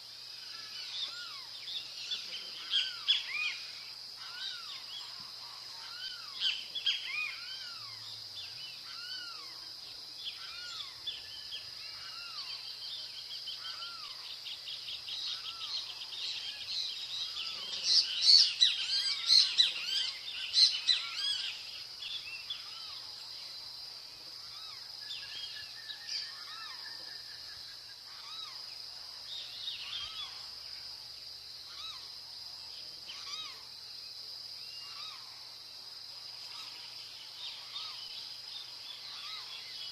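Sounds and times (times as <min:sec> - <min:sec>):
high-pitched insect drone: 0:00.0 - 0:23.6, 0:29.4 - 0:32.4, 0:33.1 - 0:33.9, 0:34.5 - 0:39.9
wild birds calling: 0:00.0 - 0:33.9, 0:34.6 - 0:39.9.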